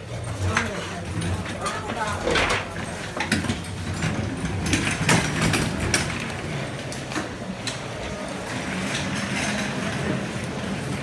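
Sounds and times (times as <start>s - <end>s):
luggage clattering: 0.0s - 11.0s
wheeled case rolling on floor: 0.0s - 11.0s.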